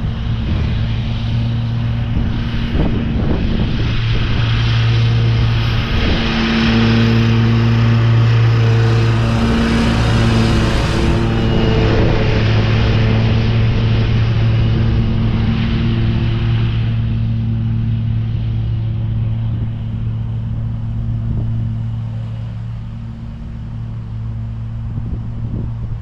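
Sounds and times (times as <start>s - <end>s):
lawn mower engine running: 0.0s - 26.0s.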